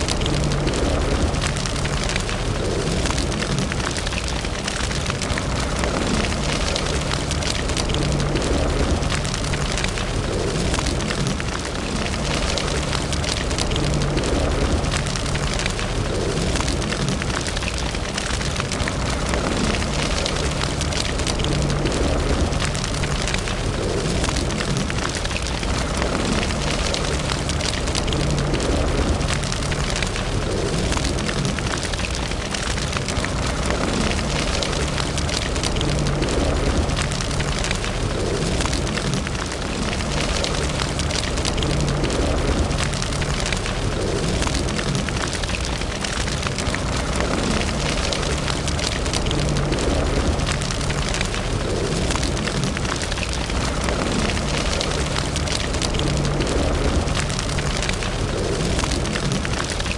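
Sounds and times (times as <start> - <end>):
fire crackles and pops: 0.0 - 59.9
fire roaring in a fireplace: 0.0 - 59.9.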